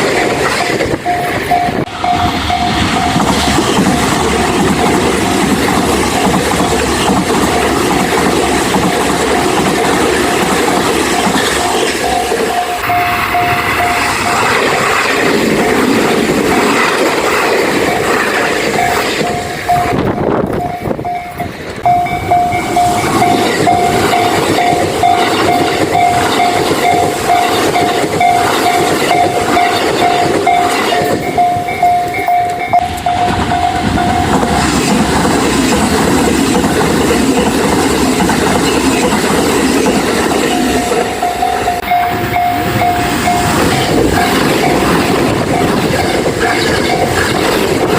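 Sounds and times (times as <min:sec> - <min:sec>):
level-crossing warning bell: 0:00.0 - 0:47.9
train wheels clattering: 0:00.0 - 0:47.9.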